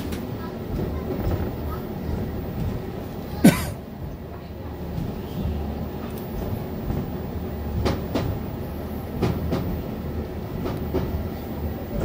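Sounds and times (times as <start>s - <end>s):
sharp clacks of train wheels: 0.0s - 11.3s
train rumbling: 0.0s - 12.0s.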